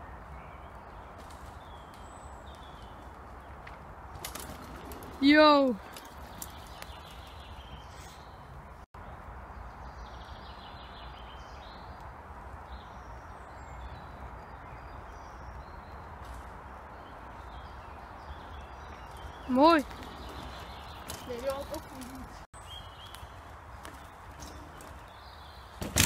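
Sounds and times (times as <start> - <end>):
faint outdoor background noise: 0.0 - 26.0.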